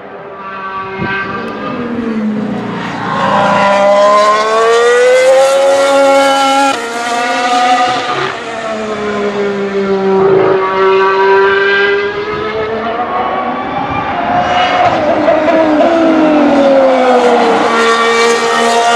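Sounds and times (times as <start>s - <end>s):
racing car engines: 0.0s - 18.9s.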